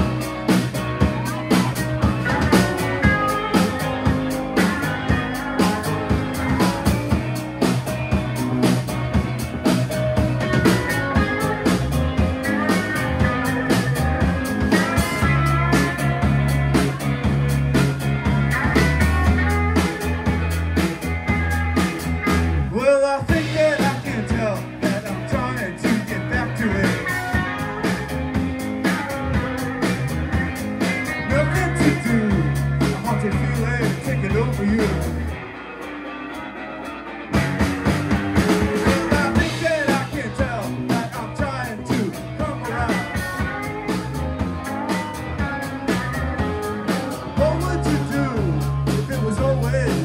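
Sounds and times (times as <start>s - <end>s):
rock band playing live: 0.0s - 50.0s.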